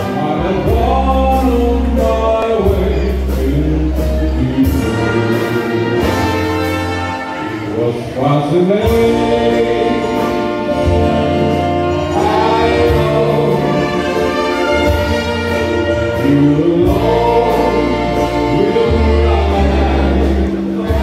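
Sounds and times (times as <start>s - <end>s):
bass: 0.0s - 21.0s
keyboard: 0.0s - 21.0s
saxophone and brass chords: 0.0s - 21.0s.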